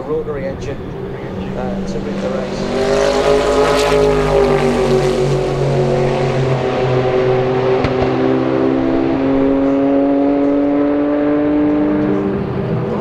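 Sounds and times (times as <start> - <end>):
race car engines accelerating: 0.0 - 13.0.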